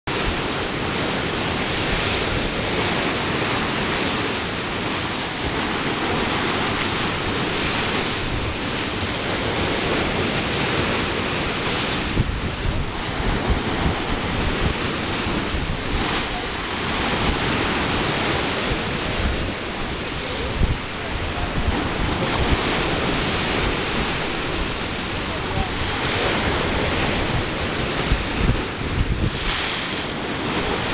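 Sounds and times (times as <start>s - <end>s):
choppy sea waves washing in: 0.1s - 30.9s
wind buffeting microphone: 0.1s - 30.9s.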